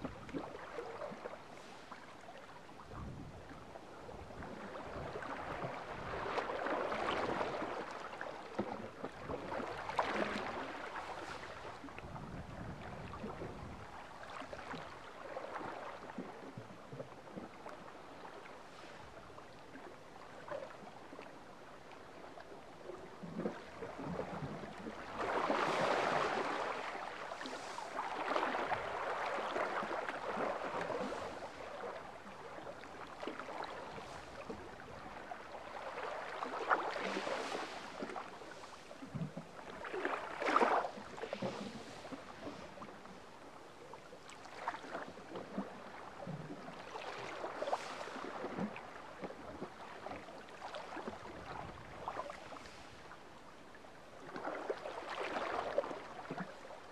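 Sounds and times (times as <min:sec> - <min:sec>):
waves lapping against rock: 0:00.0 - 0:21.3, 0:22.8 - 0:53.4, 0:54.1 - 0:56.9.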